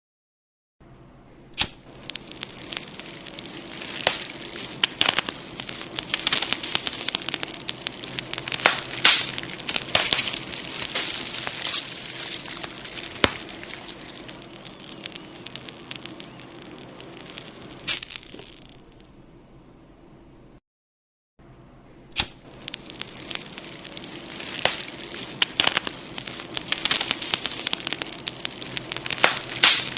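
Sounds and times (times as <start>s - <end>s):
fire crackling and popping: 1.6s - 19.1s, 22.2s - 29.9s.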